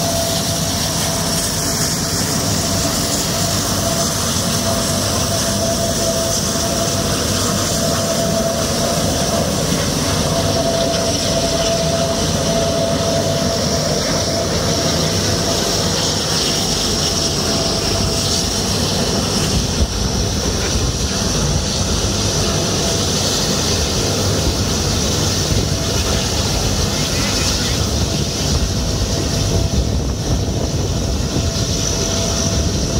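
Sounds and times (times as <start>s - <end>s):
turboprop engines running: 0.0s - 32.9s.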